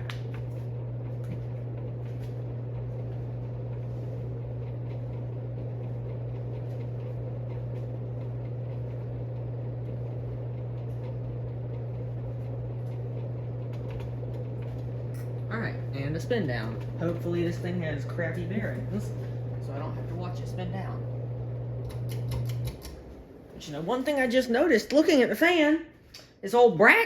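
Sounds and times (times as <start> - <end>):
fan motor hum: 0.0 - 27.0.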